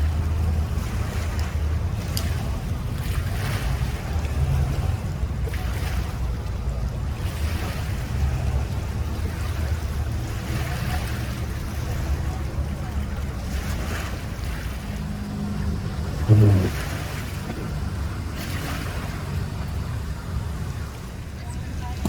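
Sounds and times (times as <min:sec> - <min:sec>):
boat motor rumbling: 0:00.0 - 0:22.0.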